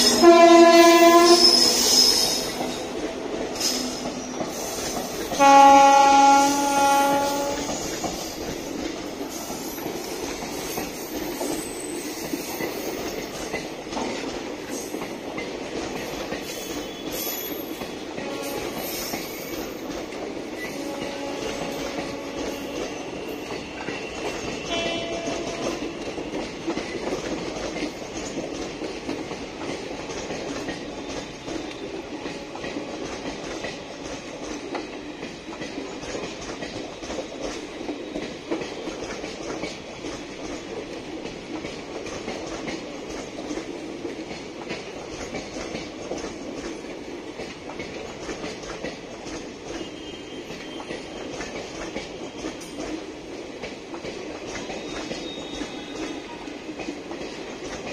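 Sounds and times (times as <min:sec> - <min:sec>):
train coaches rumbling past: 0:00.0 - 0:57.9
wheels clacking over rail joints: 0:02.2 - 0:57.9.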